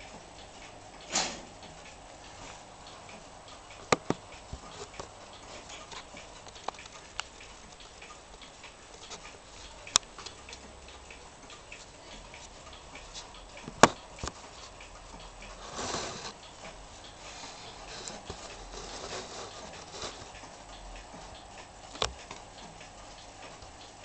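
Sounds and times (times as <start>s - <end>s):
clock mechanism ticking faintly: 0.0s - 24.0s.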